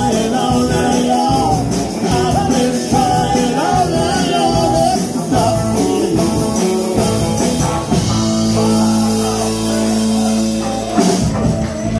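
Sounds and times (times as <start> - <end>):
drum kit: 0.0 - 11.9
electric guitars: 0.0 - 11.9
rock band playing: 0.0 - 11.9.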